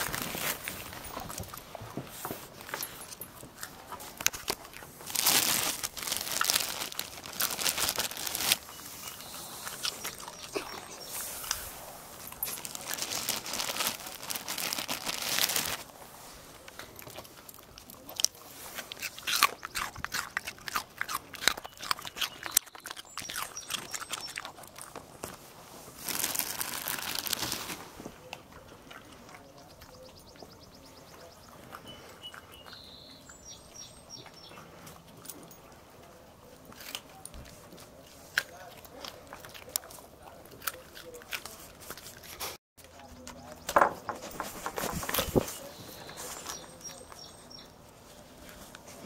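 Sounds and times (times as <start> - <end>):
dogs crunching raw carrots: 0.0 - 49.0.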